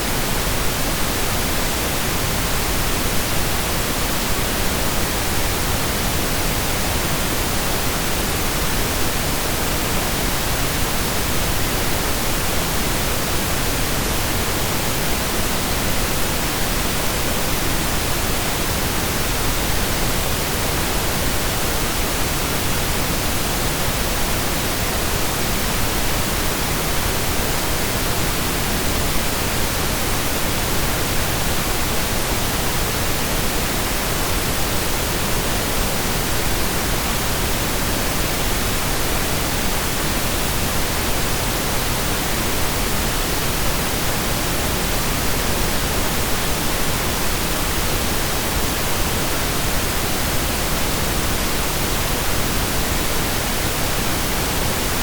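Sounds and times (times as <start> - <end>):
steady pink noise: 0.0 - 55.0.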